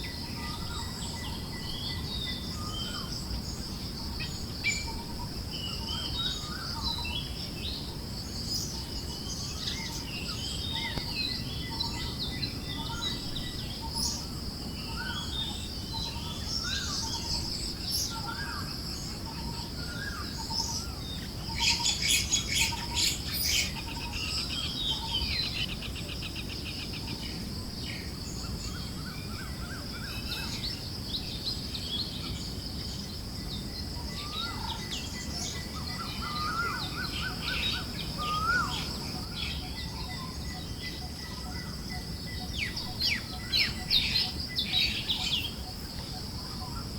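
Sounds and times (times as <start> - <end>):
birds chirping and calling: 0.0 - 46.9
high insect drone: 0.0 - 46.9.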